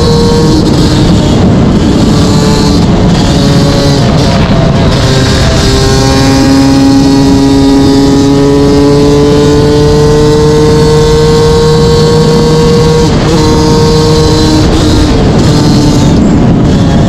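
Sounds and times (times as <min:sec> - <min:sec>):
two-stroke engine pulling: 0:00.0 - 0:17.0.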